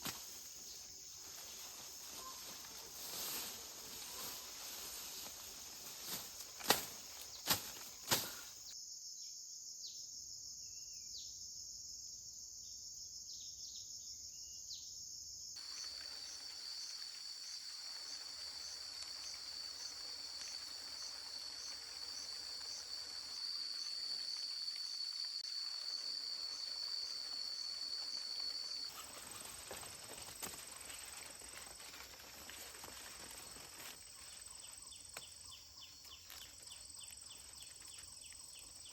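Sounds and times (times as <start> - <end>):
insects chirring: 0.0 - 10.0, 12.3 - 38.9.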